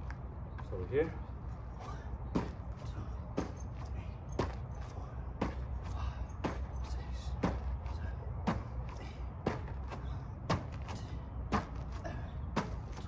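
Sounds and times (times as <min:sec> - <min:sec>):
feet landing on gravel: 0:01.8 - 0:13.0.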